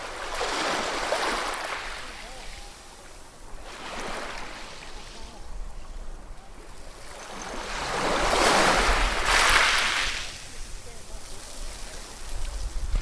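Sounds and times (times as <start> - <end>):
ocean waves breaking on shore: 0.0 - 13.0.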